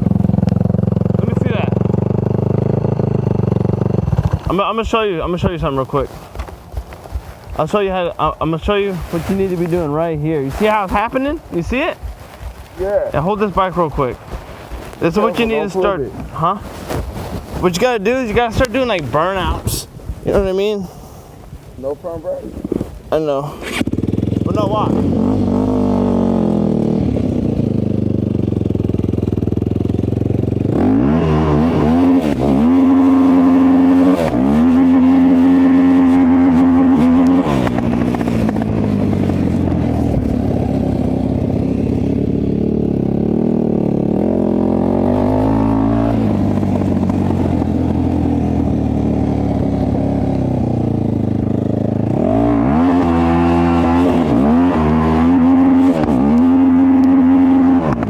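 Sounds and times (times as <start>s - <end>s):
off-road motorcycle engine revving: 0.0s - 19.7s, 21.8s - 58.0s.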